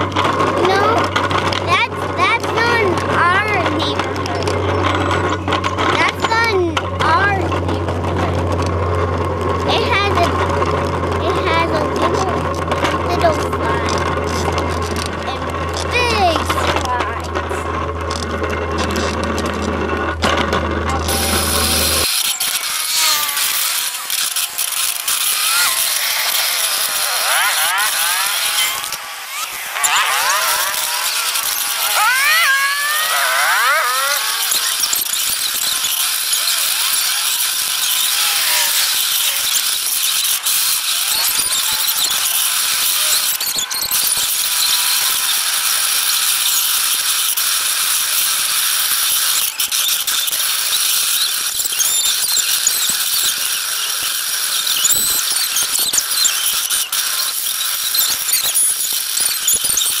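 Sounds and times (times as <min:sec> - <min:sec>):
bicycle squeaking and rattling: 0:00.0 - 1:00.0.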